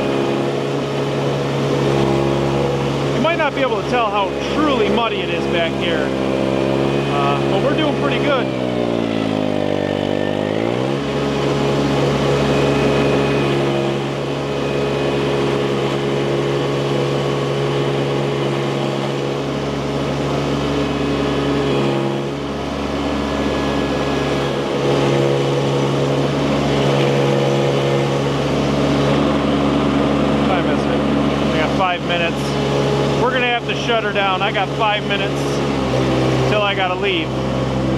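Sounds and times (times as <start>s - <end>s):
skid steer engine running: 0.0s - 37.9s.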